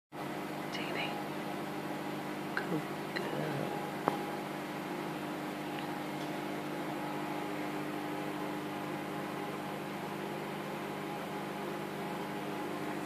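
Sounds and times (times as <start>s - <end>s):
mechanical hum: 0.2s - 13.0s.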